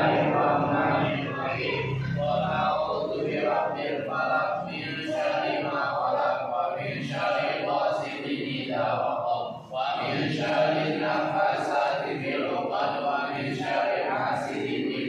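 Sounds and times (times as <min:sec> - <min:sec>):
men chanting prayers in unison: 0:00.0 - 0:15.0.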